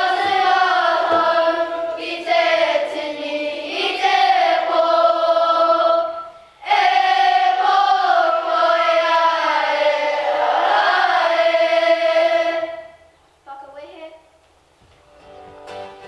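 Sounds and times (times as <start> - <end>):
children singing together: 0.0 - 13.1.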